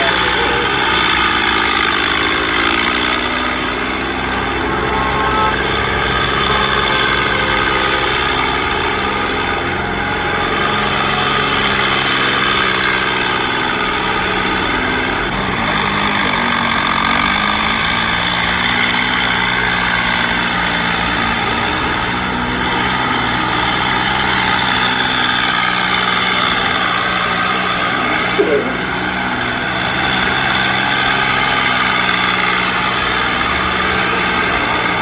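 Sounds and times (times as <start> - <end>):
bulldozer diesel engine running: 0.0 - 35.0.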